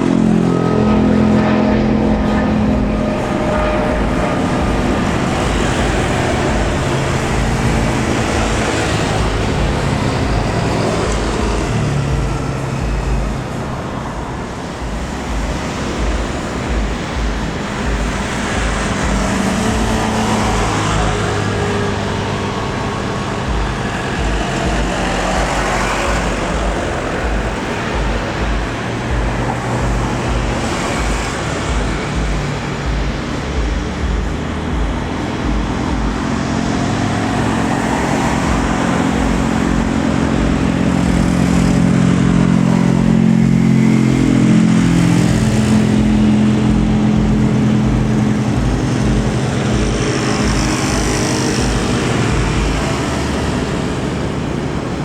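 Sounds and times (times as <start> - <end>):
road traffic roar: 0.0 - 55.0
vehicles passing by: 0.0 - 55.0.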